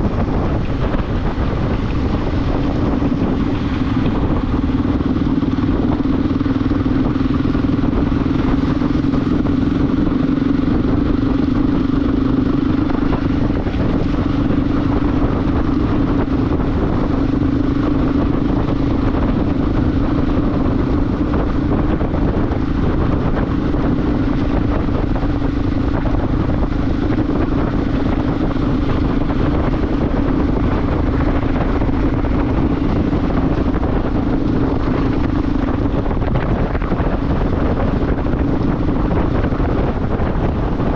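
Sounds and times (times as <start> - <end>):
motorcycle engine droning: 0.0 - 40.9
wind and road noise: 0.0 - 40.9.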